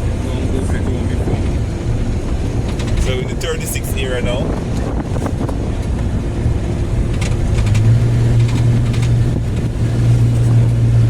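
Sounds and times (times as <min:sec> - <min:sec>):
car engine hum: 0:00.0 - 0:11.0
road noise inside car: 0:00.0 - 0:11.0.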